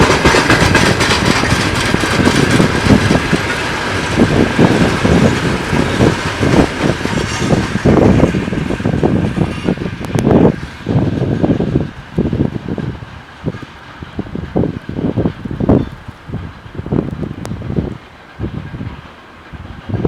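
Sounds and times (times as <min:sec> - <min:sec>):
train wheels clattering over rails: 0:00.0 - 0:20.0
wind buffeting the microphone: 0:00.0 - 0:20.0.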